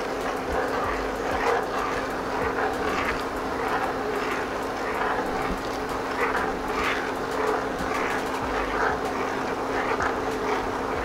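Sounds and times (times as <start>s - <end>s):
pan boiling and bubbling: 0.0s - 11.0s
steady low hum: 0.0s - 11.0s.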